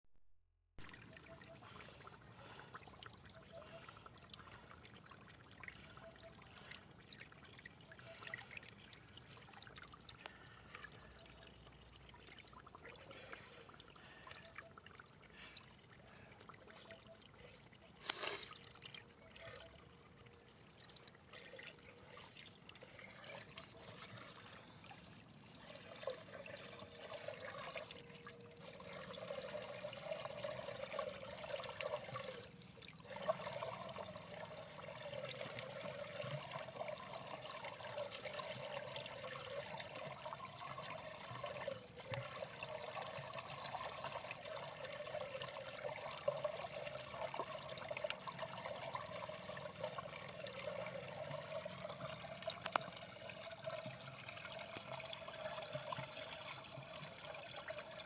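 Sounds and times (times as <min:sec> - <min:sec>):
water trickling and pouring: 0:00.8 - 0:58.0.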